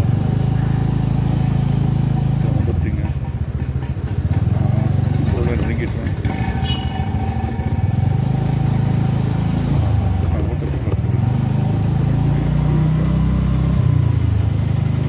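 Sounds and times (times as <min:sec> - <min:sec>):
motor scooter engine running: 0:00.0 - 0:15.0
road and wind noise: 0:00.0 - 0:15.0.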